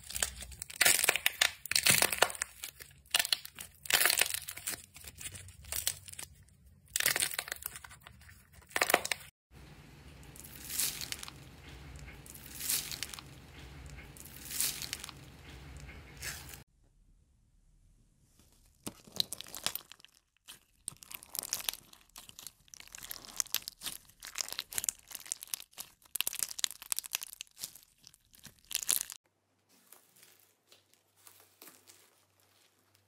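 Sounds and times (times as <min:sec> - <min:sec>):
soft slime squishing: 0:00.0 - 0:16.6, 0:18.3 - 0:33.0.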